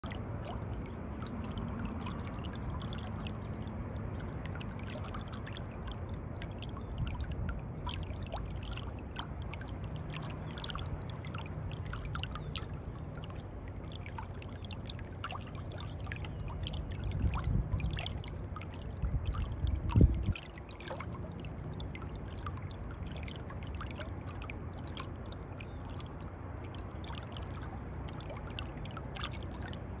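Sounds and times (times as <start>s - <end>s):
dull low water surges: 0.0s - 30.0s
pool water lapping: 0.0s - 30.0s
steady low rumble: 0.0s - 30.0s.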